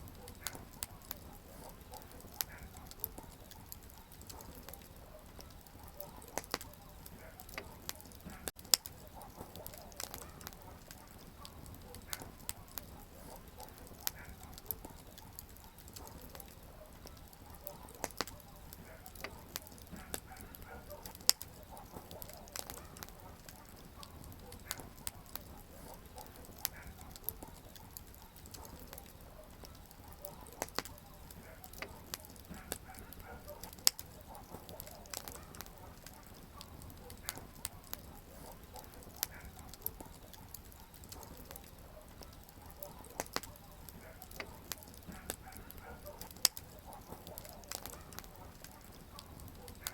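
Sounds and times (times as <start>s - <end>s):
campfire crackling and popping: 0.0s - 49.9s
soft rumble of flame: 0.0s - 49.9s.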